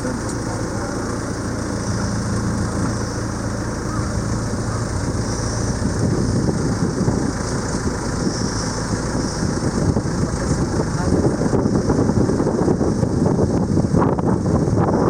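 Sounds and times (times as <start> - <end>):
boat engine running: 0.0 - 15.0
wind and water rushing: 0.0 - 15.0.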